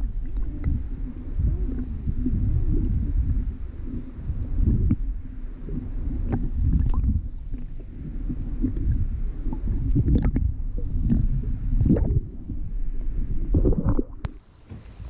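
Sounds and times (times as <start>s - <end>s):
underwater rumbling and gurgling: 0.0s - 15.0s.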